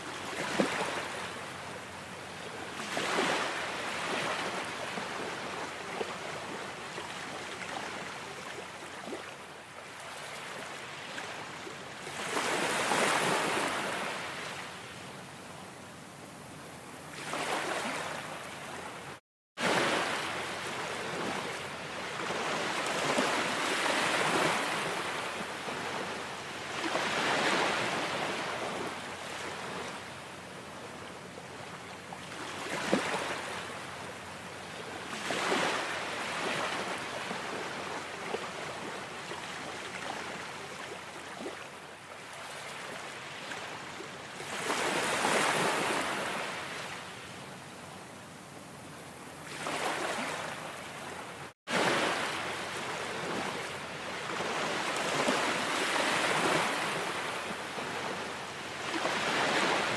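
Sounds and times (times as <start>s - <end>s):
ocean waves breaking on shore: 0.0s - 15.3s, 16.3s - 48.0s, 48.7s - 59.9s.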